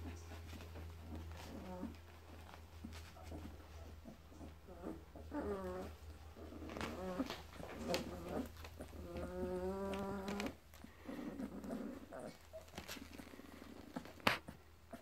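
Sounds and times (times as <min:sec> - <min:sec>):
puppies grunting: 0:00.0 - 0:15.0
puppies whining: 0:00.0 - 0:15.0.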